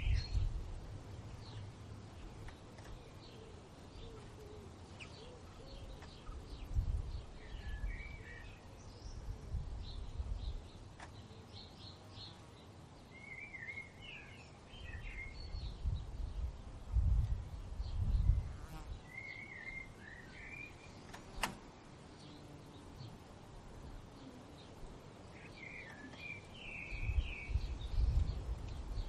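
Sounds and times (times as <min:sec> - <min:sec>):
warbling bird song: 0:00.0 - 0:00.6, 0:01.2 - 0:16.6, 0:17.4 - 0:29.0
low rumble of wind gusts: 0:00.0 - 0:13.2, 0:14.0 - 0:19.1, 0:19.7 - 0:29.0
songbirds chirping: 0:00.0 - 0:29.0.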